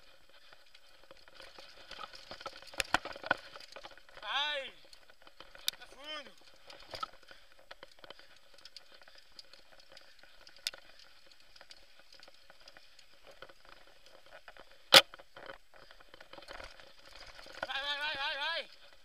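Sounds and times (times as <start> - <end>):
bike tyres crackling on loose dirt: 0.0 - 19.0
small rattling clicks: 0.3 - 4.2, 4.8 - 17.8.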